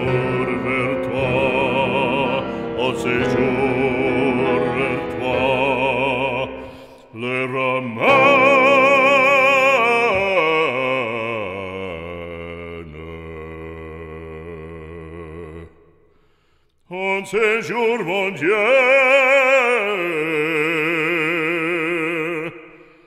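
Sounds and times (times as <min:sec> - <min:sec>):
operatic religious song: 0:00.0 - 0:23.0.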